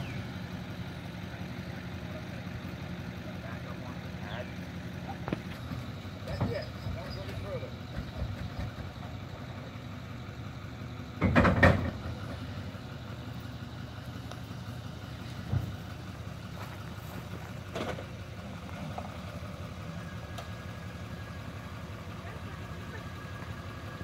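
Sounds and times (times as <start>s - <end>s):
pickup truck engine at low revs: 0.0s - 24.0s.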